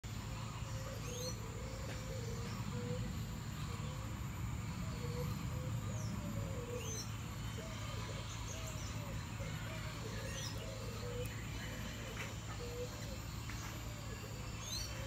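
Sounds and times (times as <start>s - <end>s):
steady low hum: 0.0s - 15.0s
low cooing bird: 0.3s - 15.0s.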